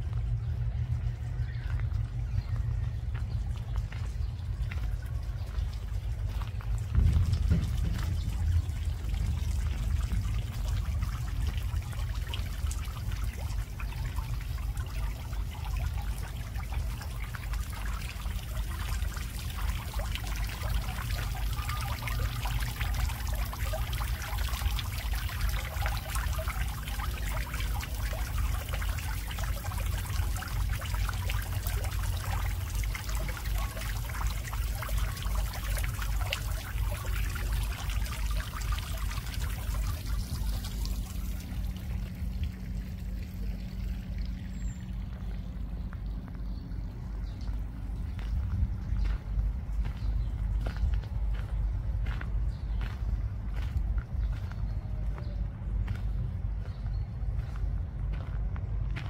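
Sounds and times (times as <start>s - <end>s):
fountain water splashing: 0.0s - 52.2s
steady low rumble: 0.0s - 59.0s.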